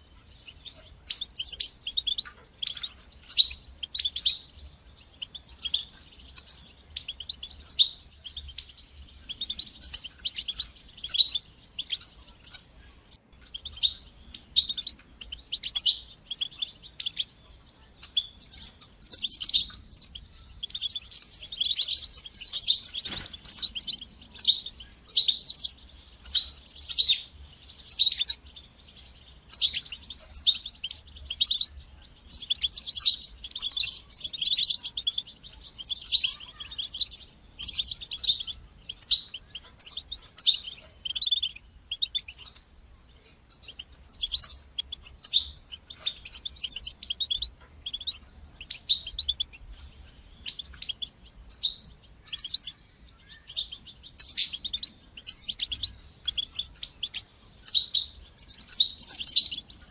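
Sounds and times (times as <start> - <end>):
finch twittering and chirping: 0.0 - 59.9.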